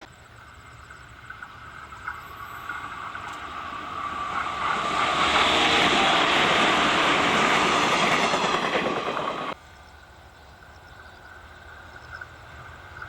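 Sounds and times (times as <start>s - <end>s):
electric train approaching: 0.1s - 13.0s.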